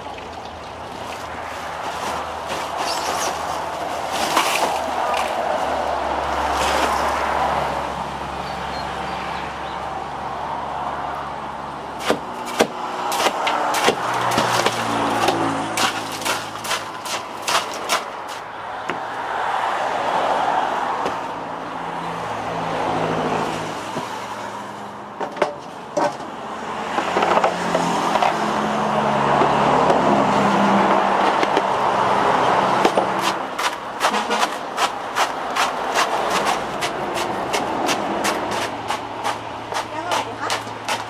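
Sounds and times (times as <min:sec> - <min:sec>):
road traffic passing: 0:00.0 - 0:41.0.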